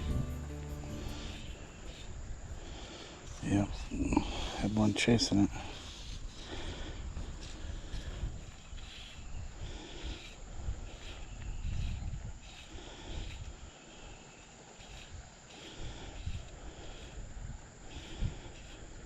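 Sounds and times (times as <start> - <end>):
insects calling: 0.0 - 19.0.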